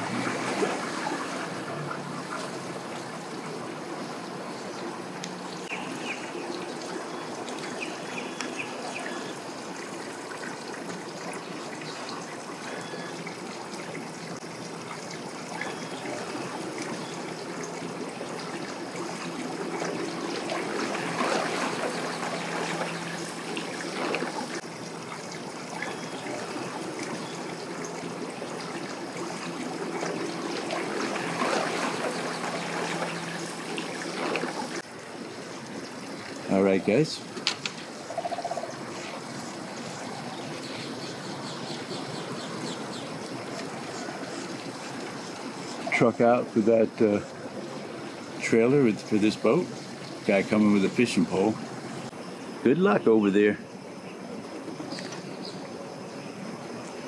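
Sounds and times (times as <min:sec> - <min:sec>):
water trickling and splashing: 0:00.0 - 0:57.0.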